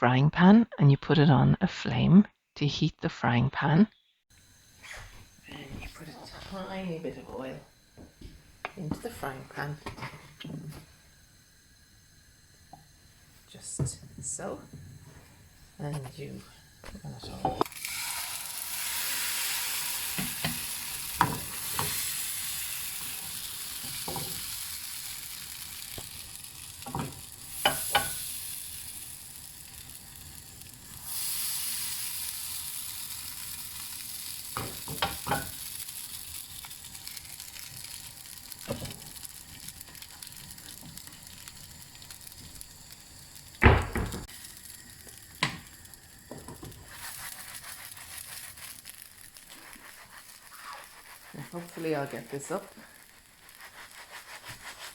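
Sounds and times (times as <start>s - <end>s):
batter sizzling in frying pan: 4.4s - 54.9s.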